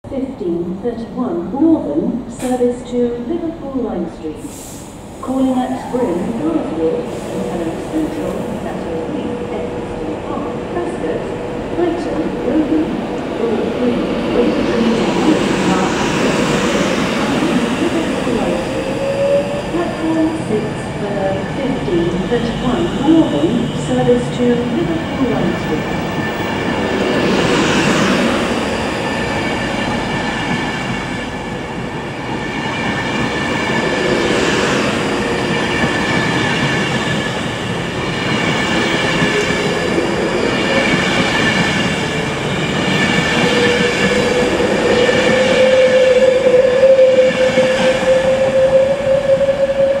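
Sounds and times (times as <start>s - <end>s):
train carriages rolling past: 5.2s - 50.0s.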